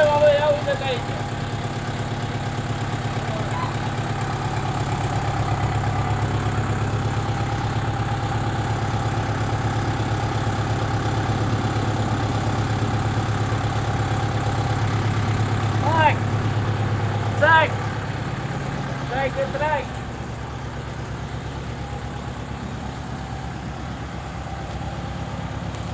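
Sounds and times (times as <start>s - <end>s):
tractor engine idling: 0.0s - 25.9s.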